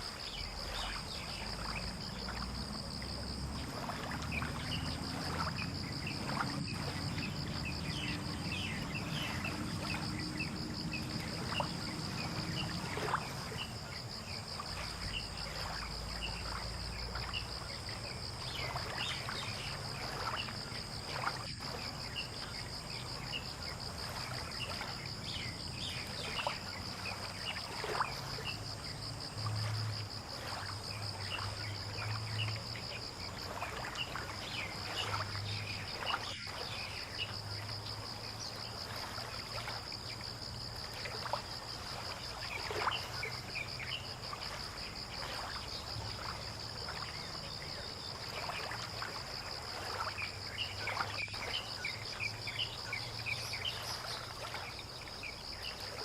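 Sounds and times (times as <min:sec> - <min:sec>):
pulsing insect trill: 0:00.0 - 0:56.0.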